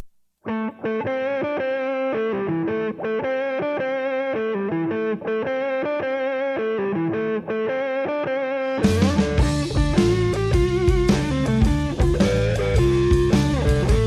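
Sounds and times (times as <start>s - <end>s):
distorted electric guitar riff: 0.5s - 14.0s.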